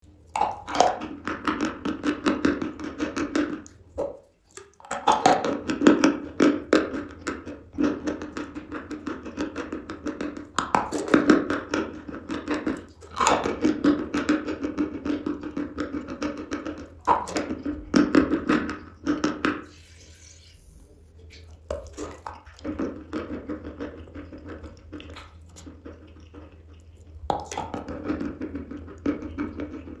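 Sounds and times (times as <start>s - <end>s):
chalk being chewed and crunching: 0.0s - 30.0s.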